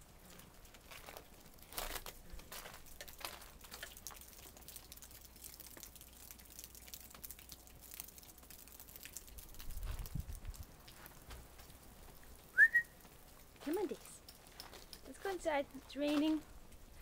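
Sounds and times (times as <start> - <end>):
rain dripping: 0.0 - 17.0.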